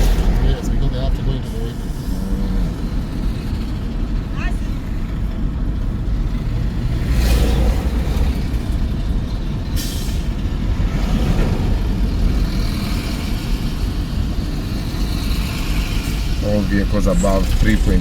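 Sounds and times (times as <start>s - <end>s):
vehicle road noise rumble: 0.0s - 18.0s.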